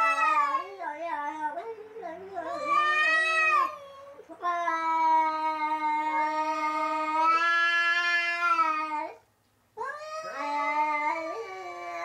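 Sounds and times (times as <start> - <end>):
cats yowling: 0.0 - 1.5, 2.3 - 9.2, 9.8 - 12.0.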